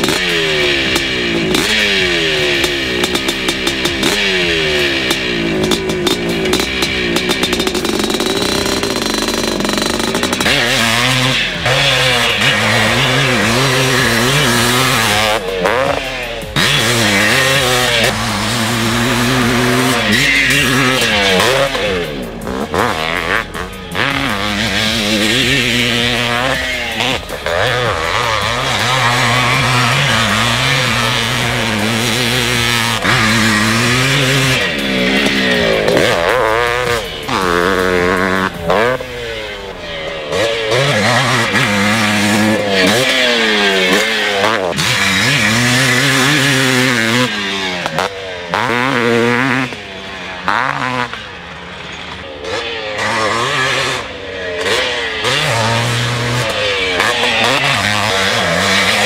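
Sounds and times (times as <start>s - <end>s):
two-stroke motorcycle revving: 0.0s - 59.0s.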